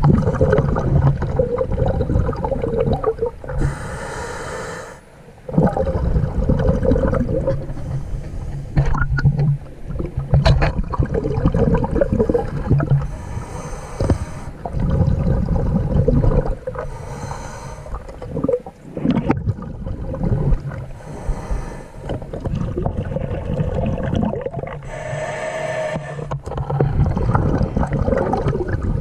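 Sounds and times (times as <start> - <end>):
diver exhaling bubbles underwater: 0.0 - 4.0, 5.5 - 8.1, 8.9 - 29.0.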